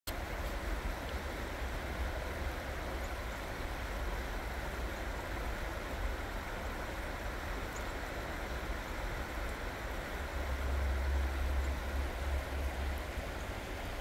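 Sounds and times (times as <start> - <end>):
creek water rushing over rocks: 0.1 - 14.0.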